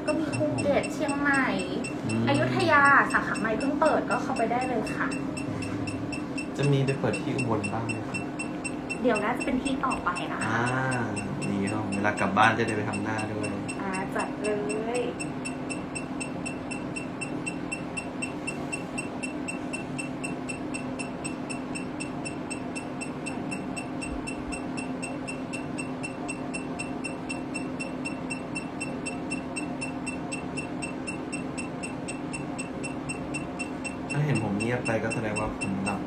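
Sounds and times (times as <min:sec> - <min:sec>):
laser machine hum: 0:00.0 - 0:36.0
rapid ticking of laser pulses: 0:00.0 - 0:36.0.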